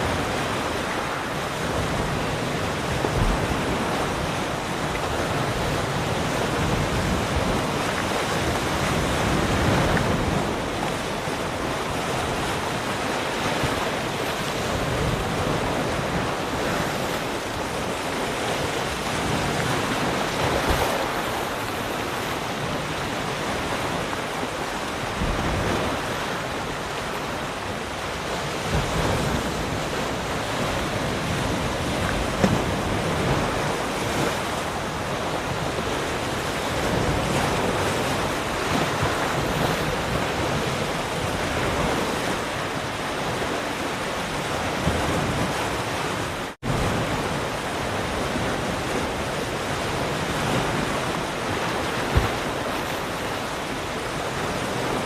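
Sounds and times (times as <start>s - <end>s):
waves breaking: 0.0s - 55.0s.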